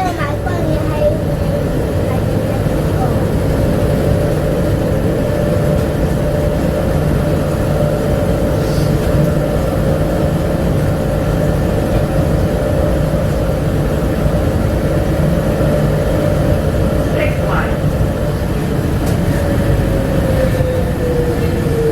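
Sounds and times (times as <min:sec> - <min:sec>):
people-mover car rumble and whine: 0:00.0 - 0:21.9.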